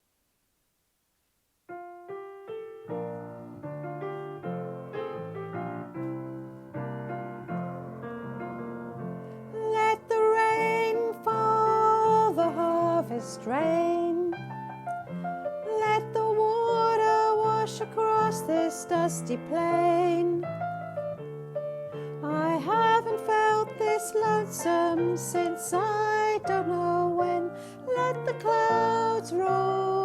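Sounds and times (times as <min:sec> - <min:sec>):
piano: 0:01.2 - 0:30.0.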